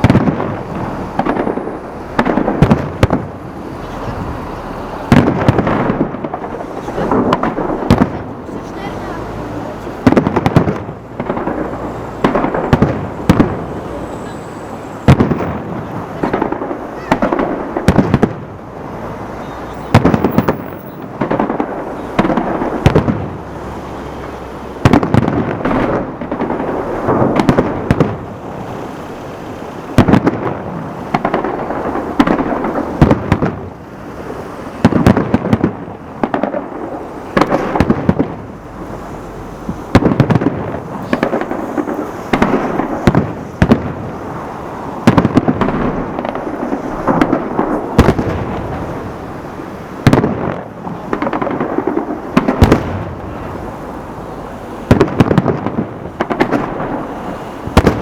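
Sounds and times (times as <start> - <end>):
fireworks bursting with echo: 0.0 - 58.0.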